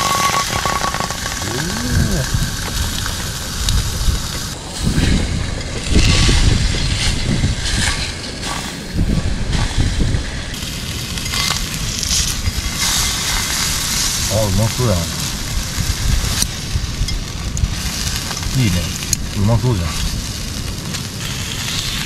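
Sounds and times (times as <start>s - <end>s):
squid sizzling in skillet: 0.0s - 4.6s, 5.8s - 22.0s
wind rumble on microphone: 0.0s - 22.0s.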